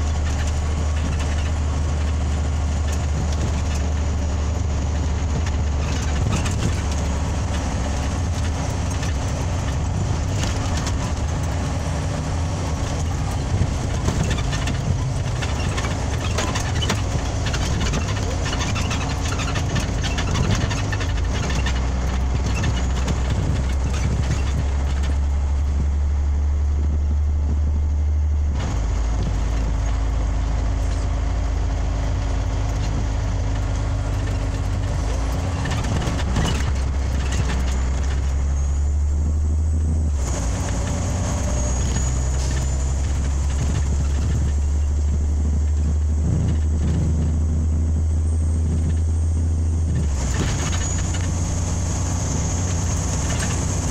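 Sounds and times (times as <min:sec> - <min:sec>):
bus diesel engine drone: 0:00.0 - 0:53.9
road and tyre noise: 0:00.0 - 0:53.9.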